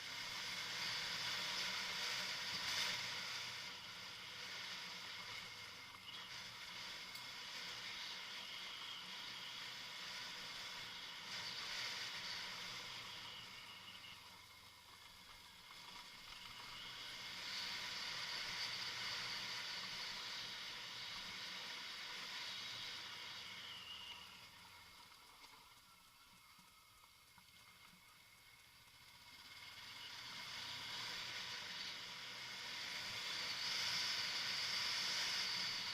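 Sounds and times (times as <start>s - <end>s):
tyre noise off-road: 0.0s - 35.9s
wind hiss: 0.0s - 35.9s.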